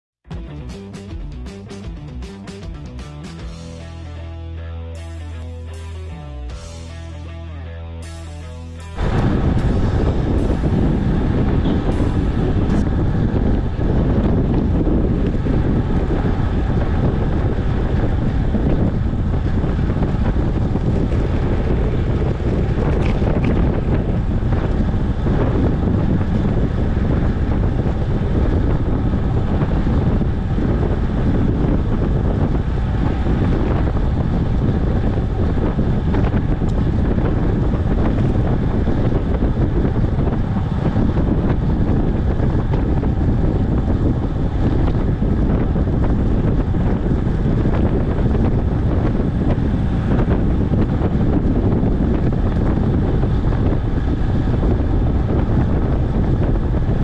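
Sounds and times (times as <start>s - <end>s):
wind buffeting microphone: 9.0s - 57.0s.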